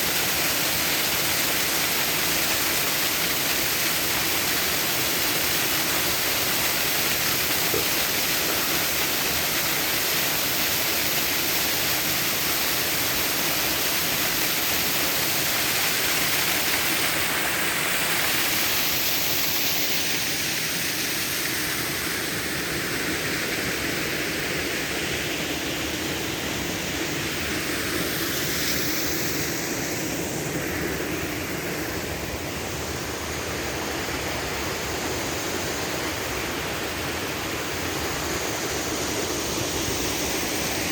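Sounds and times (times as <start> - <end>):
waterfall pouring over rocks: 0.0 - 40.9.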